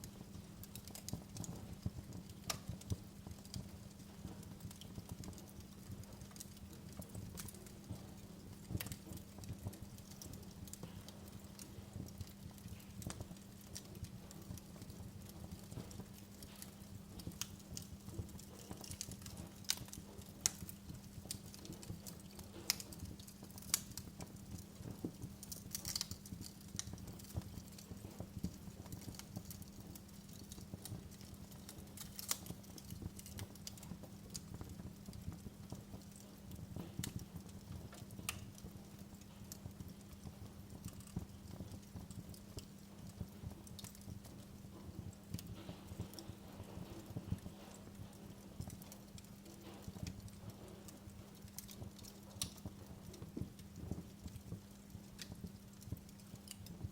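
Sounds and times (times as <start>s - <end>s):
faint steady hum: 0.0s - 56.9s
wood fire crackling: 0.0s - 56.9s.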